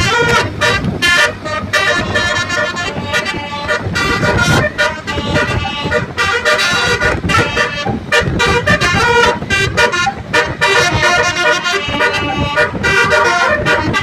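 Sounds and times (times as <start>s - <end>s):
musical air horn melody: 0.0s - 14.0s.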